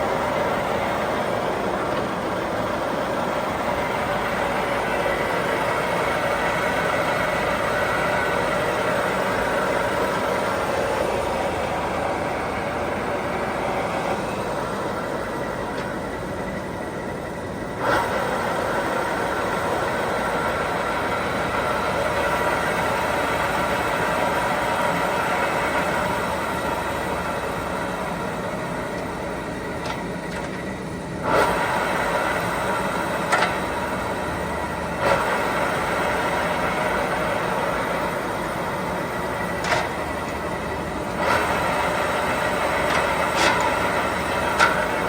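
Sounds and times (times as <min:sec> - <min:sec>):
lathe running with gear whine: 0:00.0 - 0:45.0.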